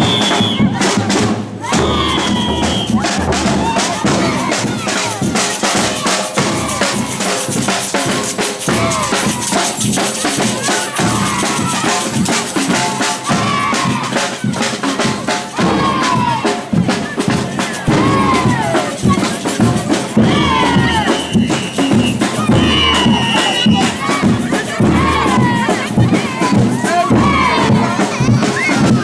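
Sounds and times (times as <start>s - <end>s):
samba percussion ensemble: 0.0s - 29.0s.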